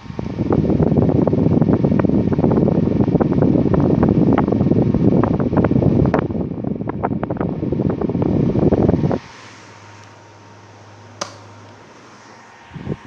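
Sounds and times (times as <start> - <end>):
fan wind buffeting microphone: 0.0 - 13.0.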